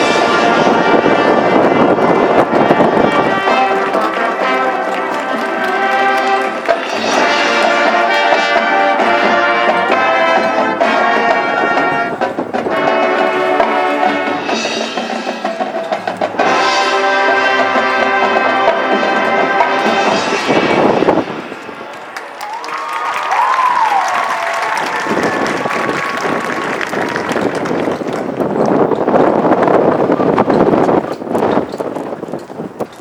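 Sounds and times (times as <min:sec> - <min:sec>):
marching band playing: 0:00.0 - 0:28.8.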